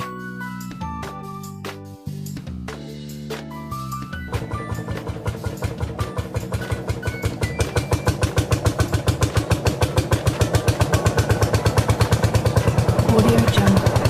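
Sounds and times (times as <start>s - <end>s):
tractor engine thumping: 2.6s - 14.0s.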